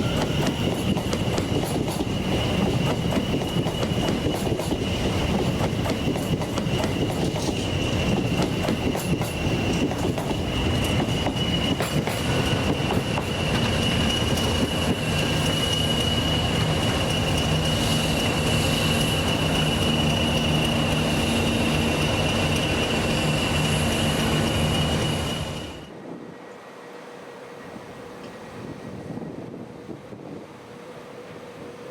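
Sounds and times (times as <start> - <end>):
train wheel squeal: 0.0 - 30.0.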